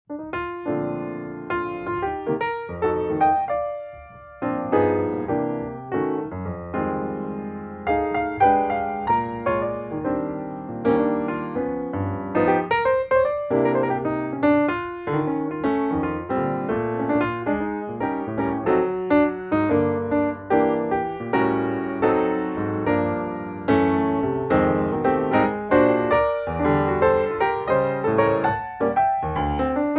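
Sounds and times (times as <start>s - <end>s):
piano music: 0.1s - 29.9s.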